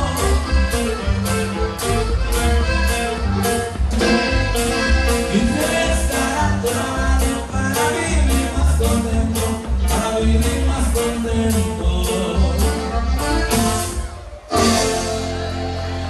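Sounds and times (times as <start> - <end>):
accordion melody: 0.0 - 16.0
live band playing dance tune: 0.0 - 16.0.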